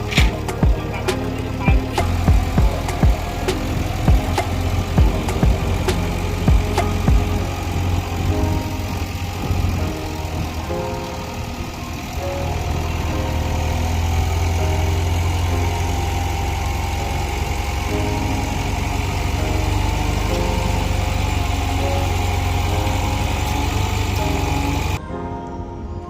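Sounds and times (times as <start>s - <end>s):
bulldozer diesel engine rumbling: 0.0s - 25.0s.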